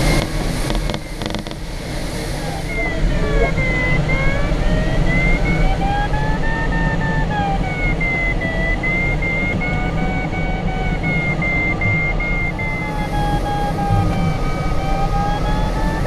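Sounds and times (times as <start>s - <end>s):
airflow rushing in cockpit: 0.0s - 16.0s
variometer short beeps: 2.6s - 16.0s.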